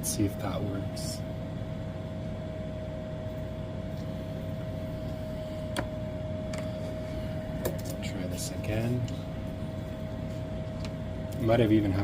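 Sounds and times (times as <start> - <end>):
background hum: 0.0 - 12.0
high whine: 0.0 - 12.0.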